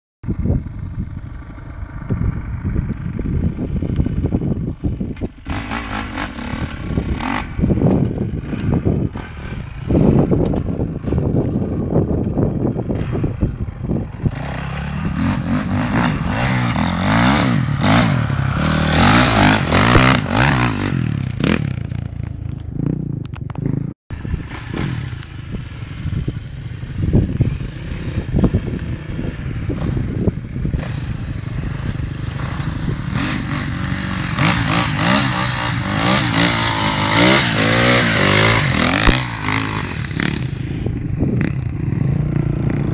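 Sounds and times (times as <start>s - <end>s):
dirt bike engines revving: 0.3s - 42.9s.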